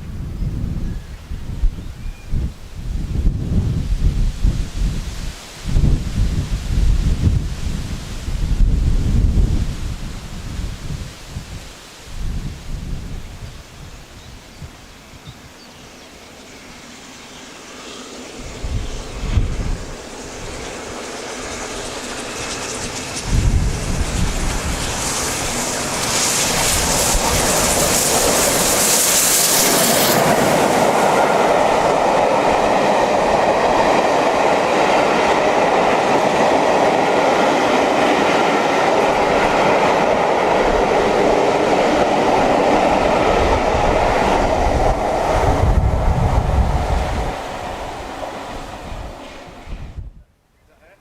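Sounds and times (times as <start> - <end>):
loud steam hiss: 3.6 - 50.0.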